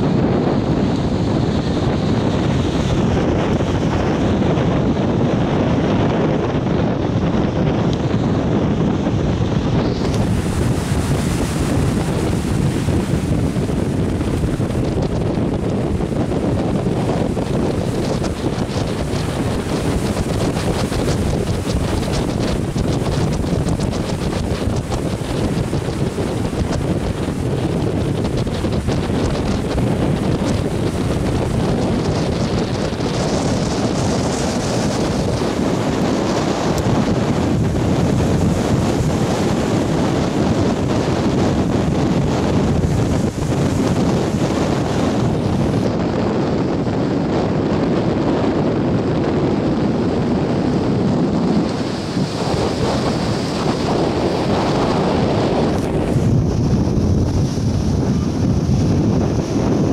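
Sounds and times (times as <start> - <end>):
surf rushing around pilings: 0.0 - 59.9
wind buffeting microphone: 0.0 - 59.9.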